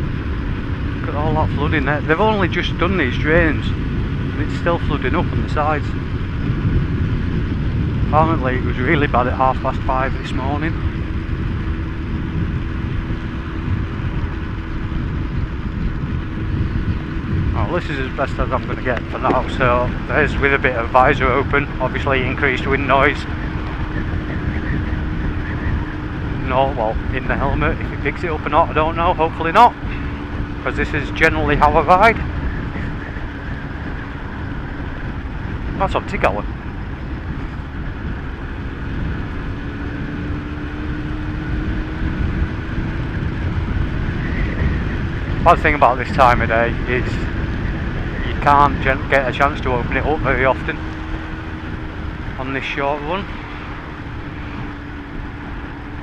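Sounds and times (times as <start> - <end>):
motorcycle engine hum: 0.0 - 56.0
wind noise over microphone: 0.0 - 56.0.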